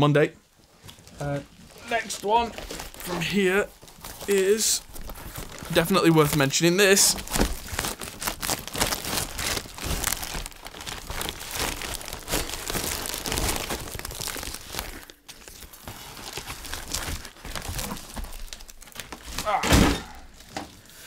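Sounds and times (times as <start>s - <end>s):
packaging crinkling and tearing: 0.7s - 21.0s.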